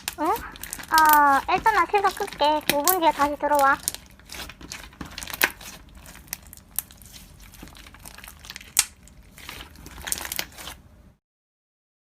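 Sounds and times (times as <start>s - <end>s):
slime squishing and crackling: 0.0s - 10.9s.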